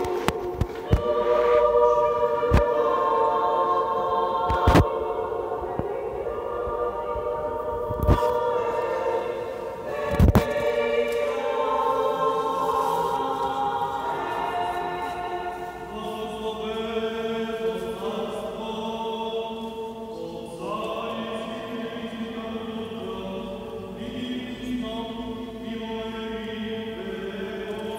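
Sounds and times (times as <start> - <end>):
choir singing chant: 0.0 - 27.9.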